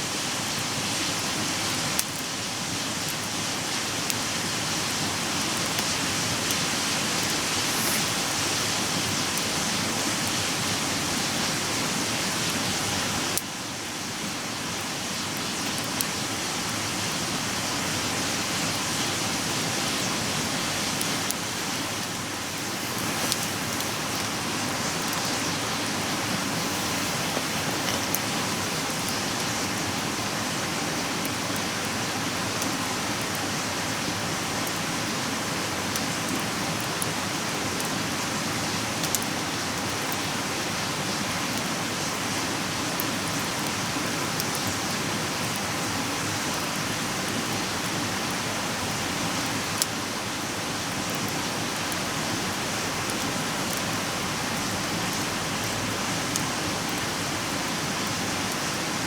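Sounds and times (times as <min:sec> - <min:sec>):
campfire crackling and hissing: 0:00.0 - 0:59.0.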